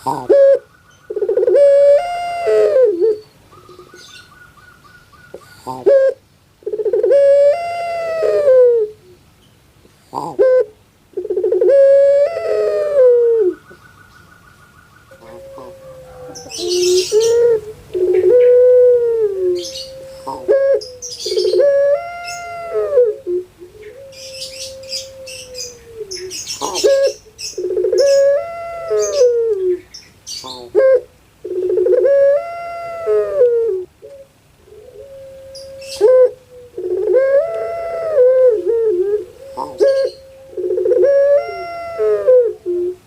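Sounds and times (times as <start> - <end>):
dove cooing: 0.0 - 9.2, 10.1 - 43.0.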